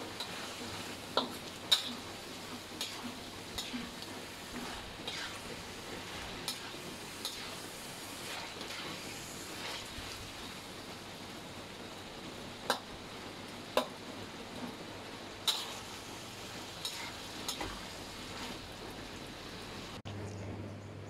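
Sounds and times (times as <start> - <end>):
food sizzling in a wok: 0.0 - 20.0.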